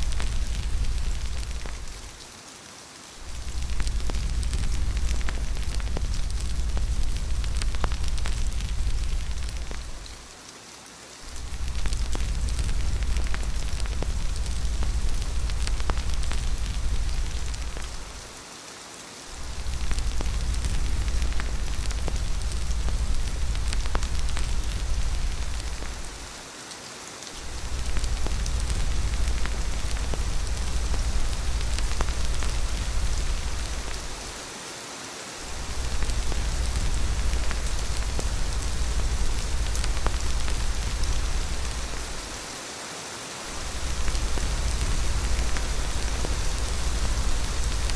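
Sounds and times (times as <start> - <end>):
deep wind rumble: 0.0 - 2.2, 3.2 - 10.2, 11.3 - 18.4, 19.3 - 26.4, 27.4 - 34.4, 35.4 - 42.5, 43.5 - 47.9
steady rain falling: 0.0 - 47.9.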